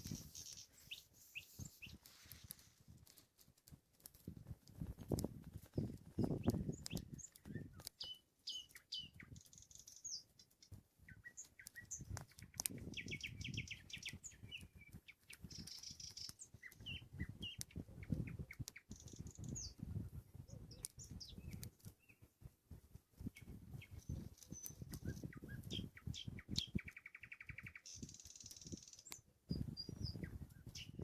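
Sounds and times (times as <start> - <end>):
nightingale singing: 0.0 - 2.0, 5.8 - 19.8, 20.5 - 22.2, 23.4 - 31.0.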